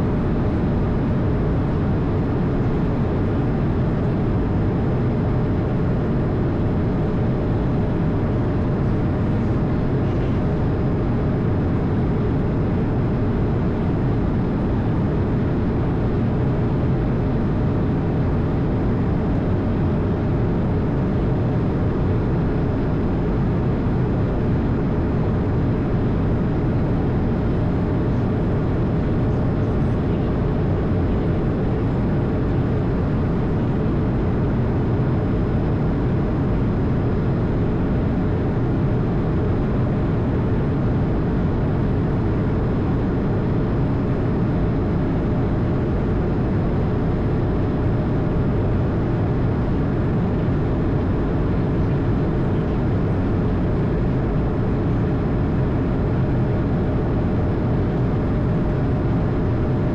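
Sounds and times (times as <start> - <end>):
airflow and engine rush: 0.0 - 59.9
faint steady hum: 0.0 - 59.9.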